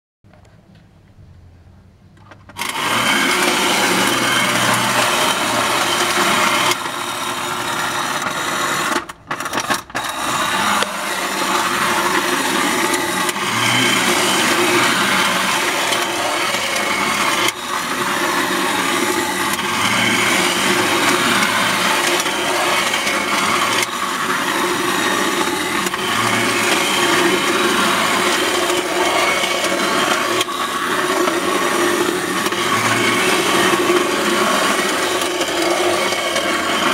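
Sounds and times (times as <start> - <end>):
toy train and car rattling on tracks: 2.2 - 36.9
wind-up motor whirring: 2.6 - 36.9.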